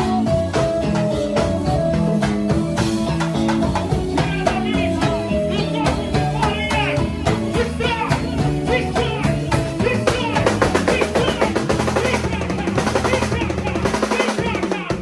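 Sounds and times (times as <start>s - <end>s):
bass line: 0.0s - 15.0s
live band playing: 0.0s - 15.0s
snare drum strokes and rolls: 0.0s - 15.0s.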